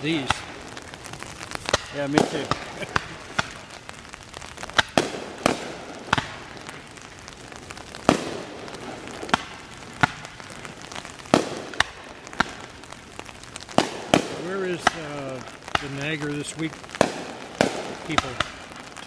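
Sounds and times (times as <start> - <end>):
fireworks bursting with echo: 0.0 - 19.0.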